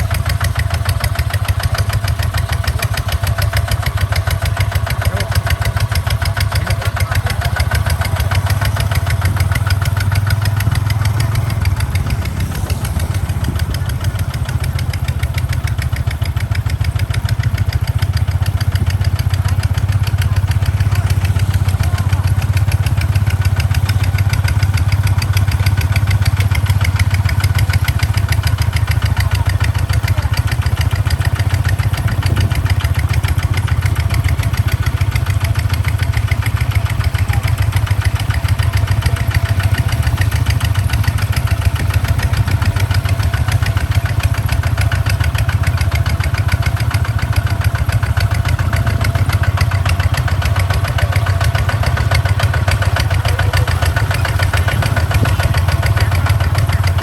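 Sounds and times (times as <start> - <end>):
tractor diesel engine chugging: 0.0 - 57.0.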